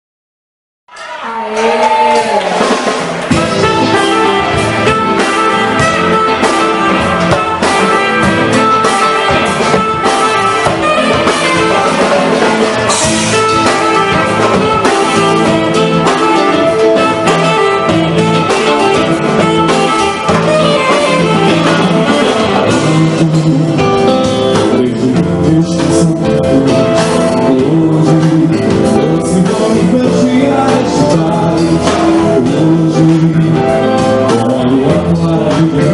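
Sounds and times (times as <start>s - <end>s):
live band playing: 0.9s - 35.9s.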